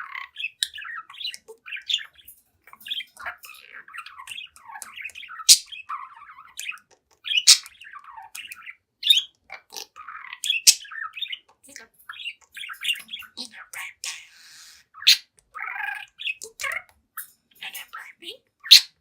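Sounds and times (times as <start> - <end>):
budgerigar chattering and warbling: 0.0 - 16.9, 17.6 - 19.0.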